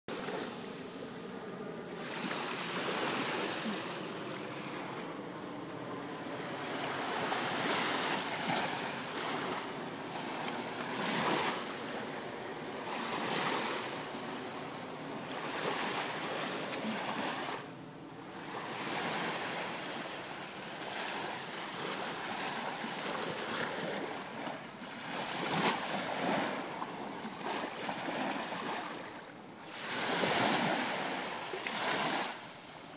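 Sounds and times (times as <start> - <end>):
waves breaking on beach: 0.1 - 32.9.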